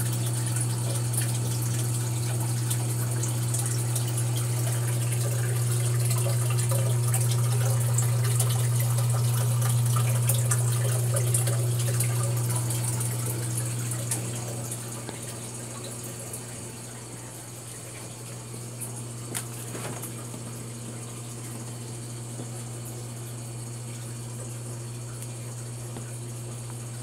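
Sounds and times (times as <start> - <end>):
water splashing and trickling: 0.0 - 23.0
filter pump hum: 0.0 - 27.0.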